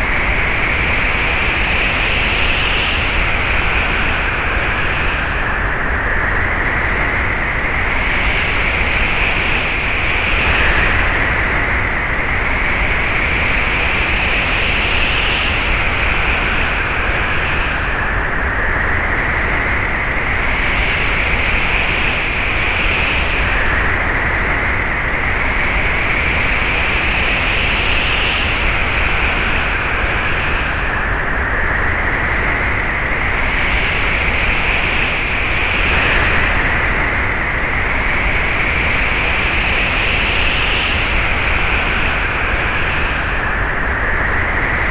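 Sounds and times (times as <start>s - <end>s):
whistling wind gusts: 0.0s - 44.9s.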